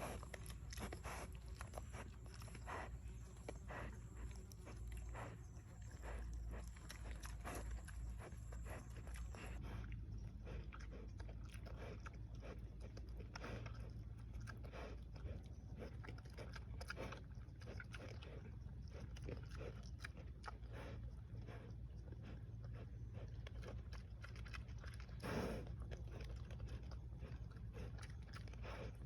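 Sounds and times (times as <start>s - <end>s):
animal chewing and crunching food: 0.0s - 29.0s
steady low hum: 0.0s - 29.0s.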